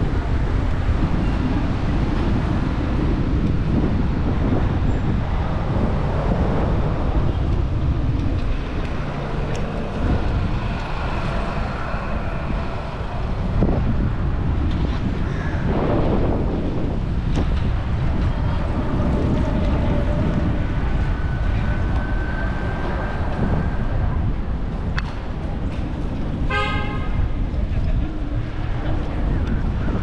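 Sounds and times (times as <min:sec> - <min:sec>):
faint street traffic: 0:00.0 - 0:30.0
wind buffeting microphone: 0:00.0 - 0:30.0.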